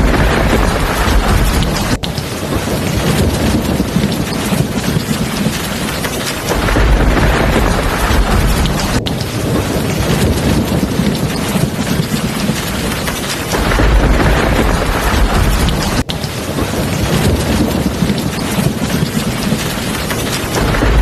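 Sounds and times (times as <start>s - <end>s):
deep thunder rumble: 0.0s - 21.0s
heavy rain falling: 0.0s - 21.0s.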